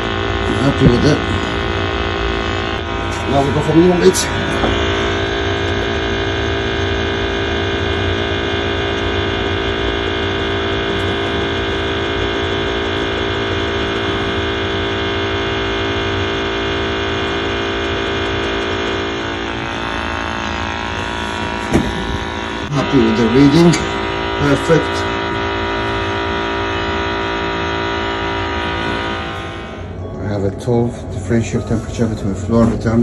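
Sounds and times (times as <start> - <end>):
boiler fan humming: 0.0 - 33.0.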